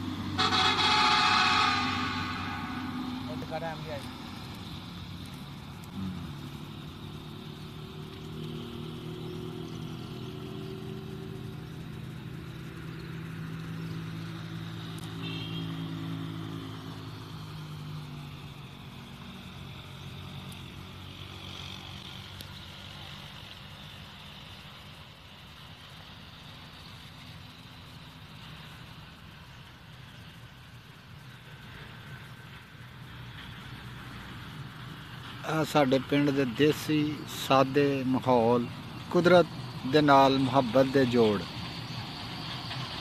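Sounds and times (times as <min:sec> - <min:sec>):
engine droning: 0:00.0 - 0:43.0.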